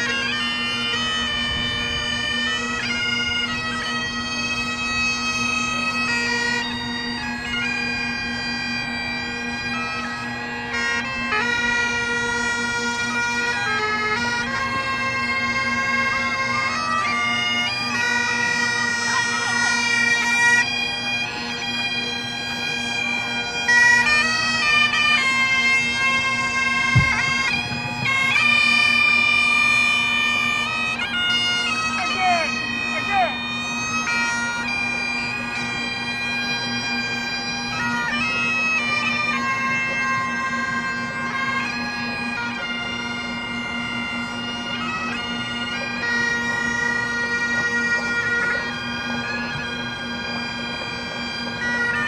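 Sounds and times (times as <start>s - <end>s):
bagpipes playing a tune: 0.0s - 52.0s.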